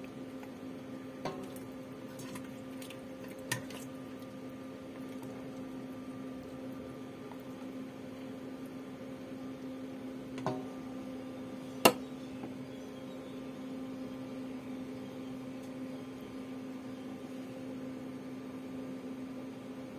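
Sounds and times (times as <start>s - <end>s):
electrical hum: 0.0s - 19.9s.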